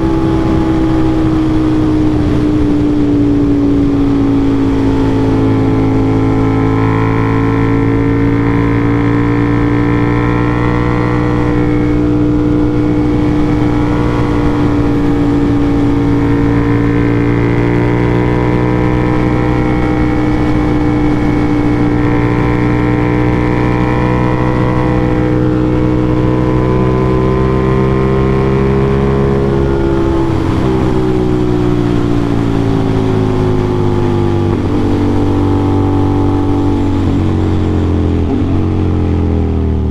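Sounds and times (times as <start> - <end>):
motorcycle engine high pitch: 0.0 - 39.9.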